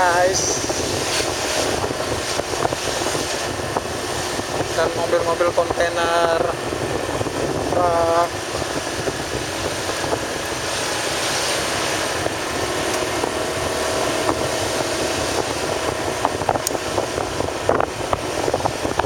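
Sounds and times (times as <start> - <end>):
passing traffic: 0.0 - 19.0
vehicle road and engine noise: 0.0 - 19.0.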